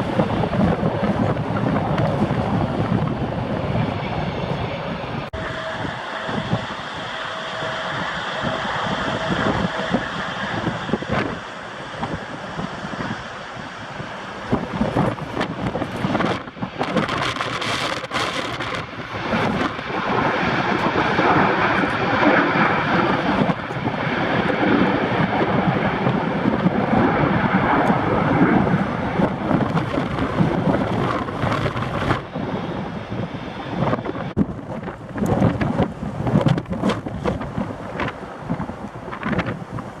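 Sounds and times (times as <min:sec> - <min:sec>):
jet airliner engine noise: 0:00.0 - 0:40.0
wind buffeting microphone: 0:00.0 - 0:40.0.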